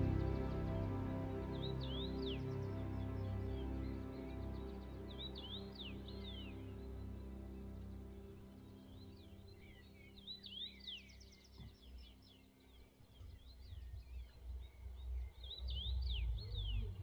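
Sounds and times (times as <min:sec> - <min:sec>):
small birds chirping: 0:00.0 - 0:17.0
soft ambient music: 0:00.0 - 0:17.0.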